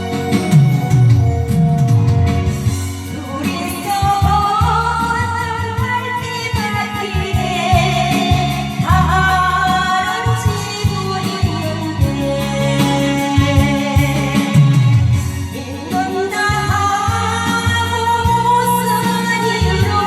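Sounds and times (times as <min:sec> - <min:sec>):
instrumental backing track: 0:00.0 - 0:20.0
person singing ballad: 0:00.0 - 0:20.0.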